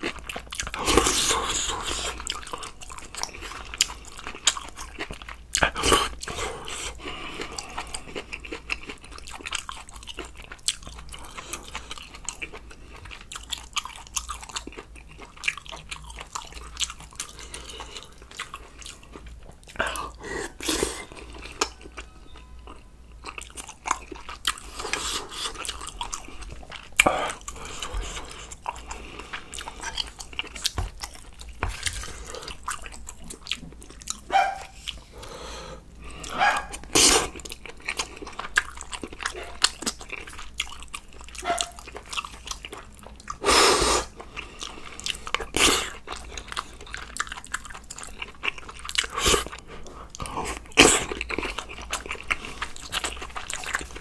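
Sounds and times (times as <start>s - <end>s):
wet chewing and smacking: 0.0s - 35.3s, 36.0s - 43.4s, 44.0s - 54.0s.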